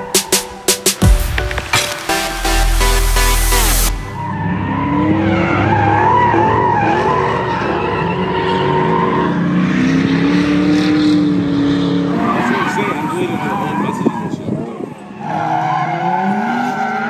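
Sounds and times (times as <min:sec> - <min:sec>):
car engines revving high: 0:00.0 - 0:17.0.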